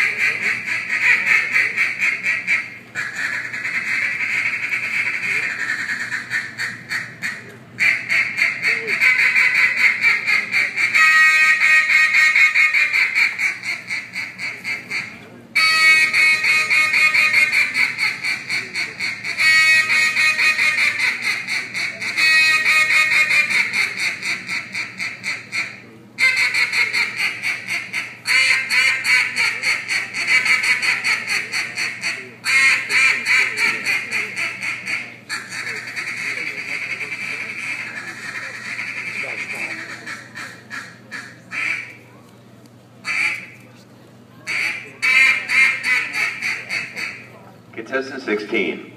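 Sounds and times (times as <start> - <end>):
duck call quacking through speakers: 0.0 - 42.0, 43.0 - 43.6, 44.5 - 48.7.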